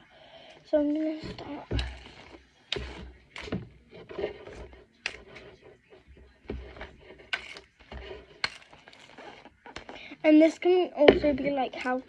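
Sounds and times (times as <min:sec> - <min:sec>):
hairbrush through doll hair: 0:00.7 - 0:12.0
handling knocks and rustles: 0:00.7 - 0:12.0.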